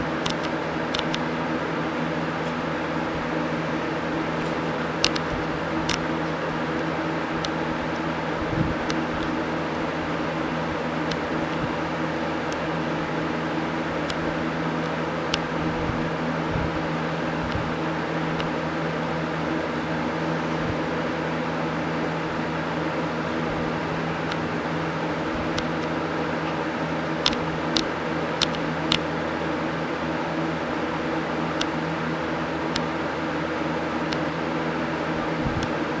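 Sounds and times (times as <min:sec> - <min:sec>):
mechanical hum with hiss: 0:00.0 - 0:36.0.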